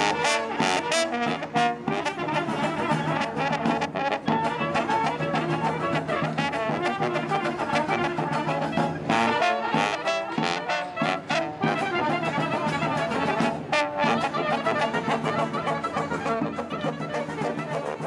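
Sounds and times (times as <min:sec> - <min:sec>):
clarinet: 0:00.0 - 0:18.0
trumpets: 0:00.0 - 0:18.0
tubas: 0:00.0 - 0:18.0.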